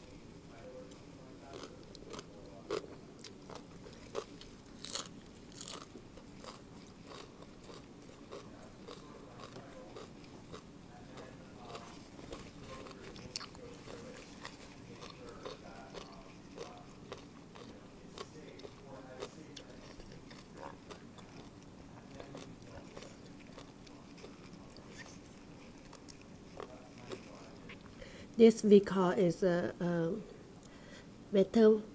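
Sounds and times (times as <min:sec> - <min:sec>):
crunching and chewing: 0:00.0 - 0:28.0.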